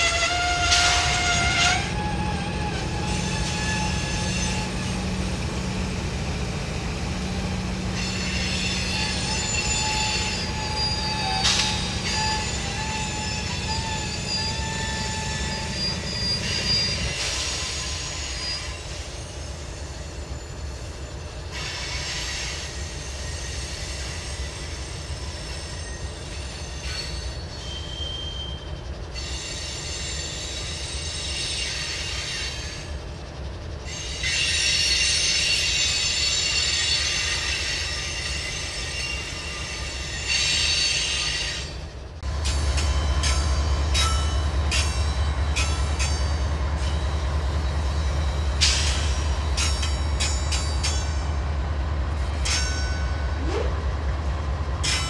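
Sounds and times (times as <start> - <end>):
diesel locomotive rumble: 0.0 - 55.0
train wheels squealing on rails: 0.0 - 55.0.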